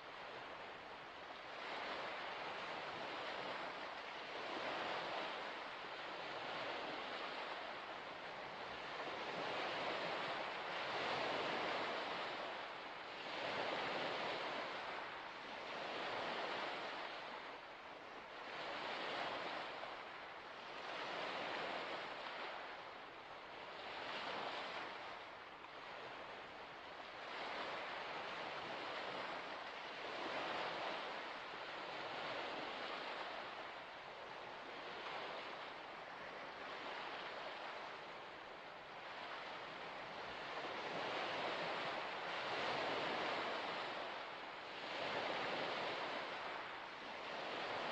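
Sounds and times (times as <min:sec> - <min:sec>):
small waves washing against shore: 0:00.0 - 0:47.9.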